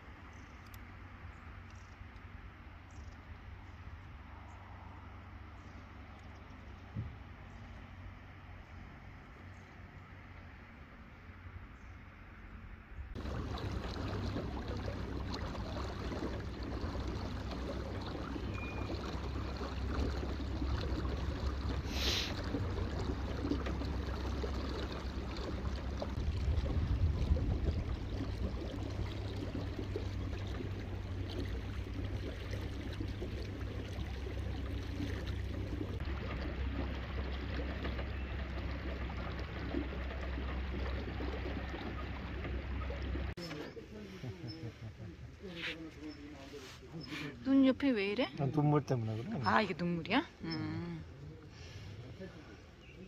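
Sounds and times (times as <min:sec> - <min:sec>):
water splashing along hull: 0:00.0 - 0:11.5, 0:12.9 - 0:53.0
boat motor hum: 0:00.0 - 0:53.0.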